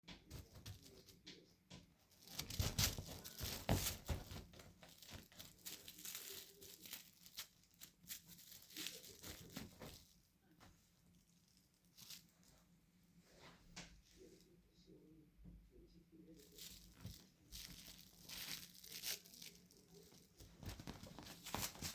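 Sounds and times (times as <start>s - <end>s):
crinkly material rustling: 0.1s - 14.6s, 16.3s - 21.9s.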